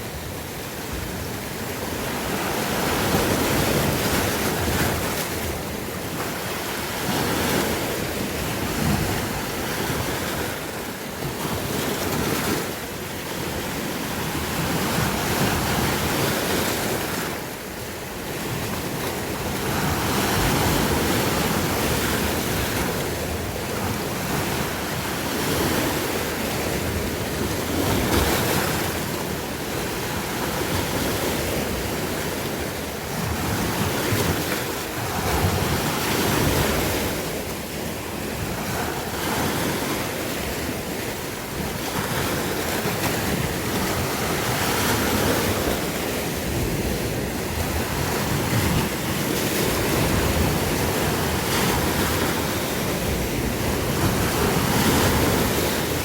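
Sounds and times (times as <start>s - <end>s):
sea waves breaking: 0.0s - 56.0s
wind on microphone: 0.0s - 56.0s.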